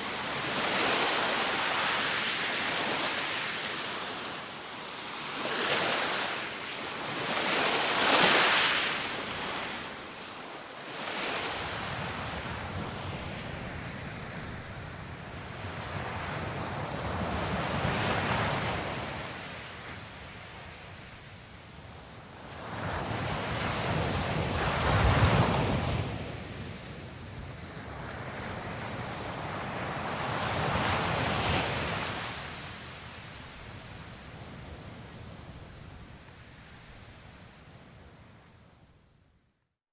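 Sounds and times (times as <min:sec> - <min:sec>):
small waves breaking on beach: 0:00.0 - 0:38.6.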